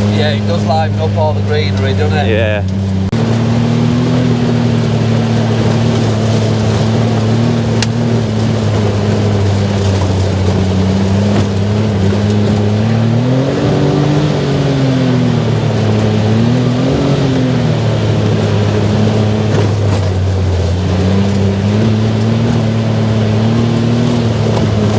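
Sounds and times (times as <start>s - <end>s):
off-road buggy engine running: 0.0s - 24.9s.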